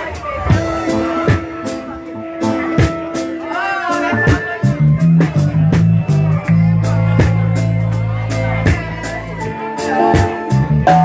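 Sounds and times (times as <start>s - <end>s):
live reggae band playing: 0.0s - 11.0s
loud held bass notes: 0.0s - 11.0s.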